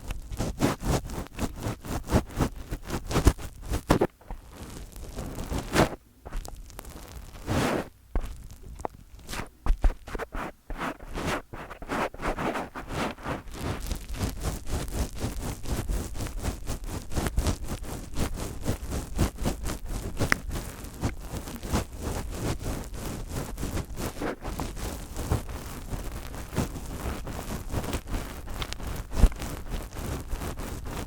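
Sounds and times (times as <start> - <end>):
fingertips scratching a microphone: 0.0 - 31.0.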